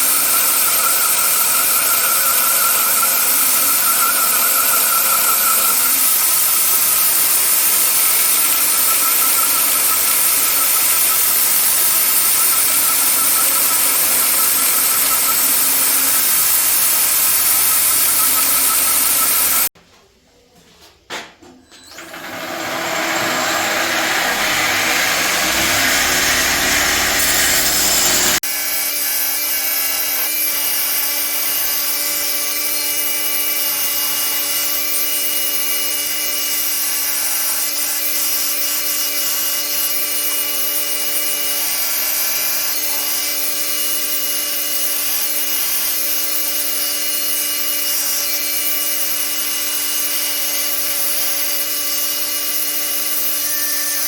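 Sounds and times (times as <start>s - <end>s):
power tool cutting metal: 0.0s - 19.7s, 21.9s - 54.0s.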